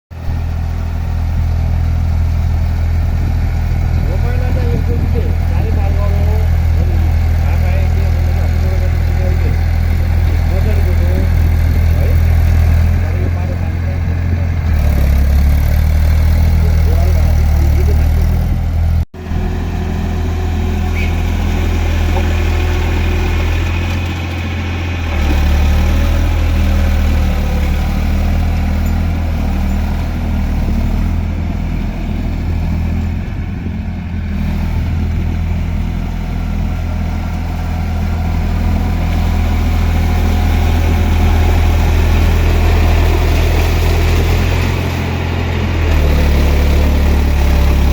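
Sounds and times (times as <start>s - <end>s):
tractor diesel engine under load: 0.1s - 47.9s.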